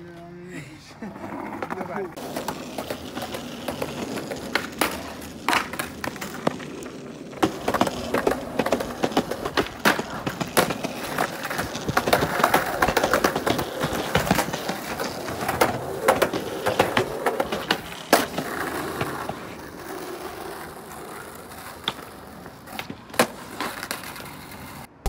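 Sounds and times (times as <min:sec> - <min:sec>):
skateboard wheels rolling on concrete: 0:00.0 - 0:25.0
skateboard clacks: 0:01.2 - 0:25.0.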